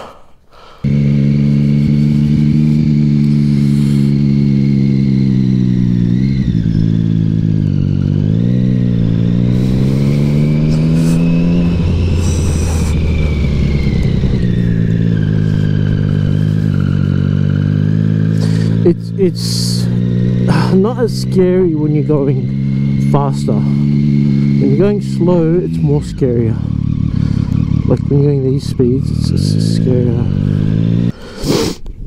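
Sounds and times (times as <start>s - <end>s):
motorcycle engine running: 0.8s - 31.1s.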